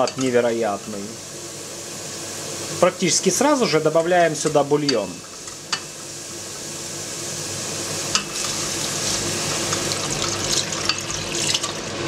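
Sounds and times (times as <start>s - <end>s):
vegetables sizzling in butter: 0.0s - 12.0s.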